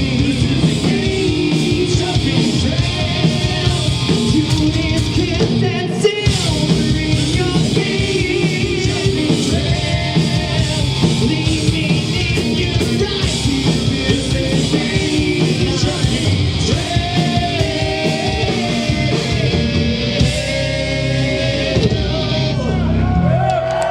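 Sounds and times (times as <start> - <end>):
pounding drums: 0.0 - 22.4
person singing: 0.0 - 23.2
distorted electric guitars: 0.0 - 23.9.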